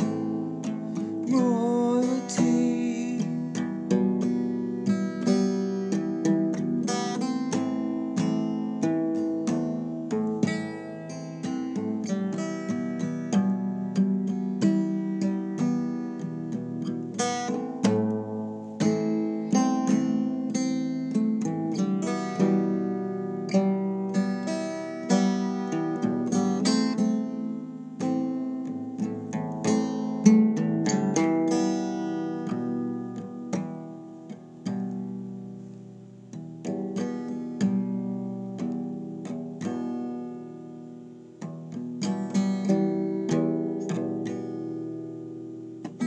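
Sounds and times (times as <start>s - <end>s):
acoustic guitar playing: 0.0s - 46.0s.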